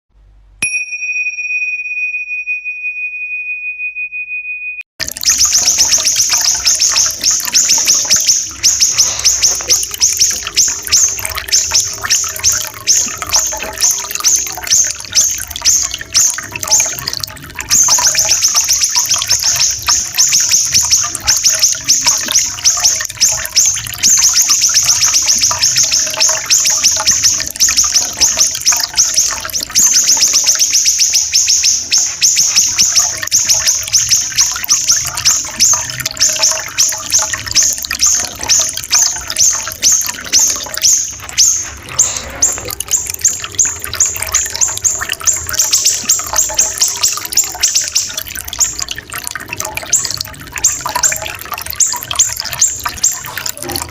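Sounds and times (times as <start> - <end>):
songbird singing harsh notes: 5.0 - 48.8
trickling water: 5.0 - 53.9.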